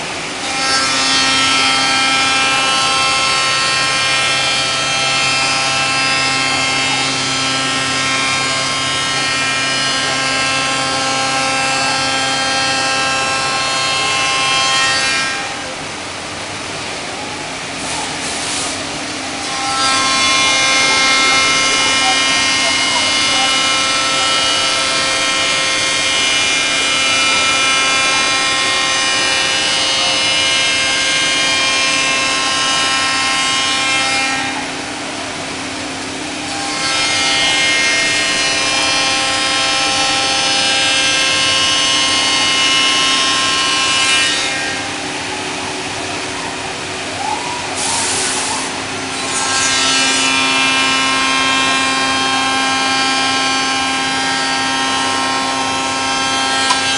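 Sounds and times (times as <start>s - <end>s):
cutter whine machining wood: 0.0s - 56.9s.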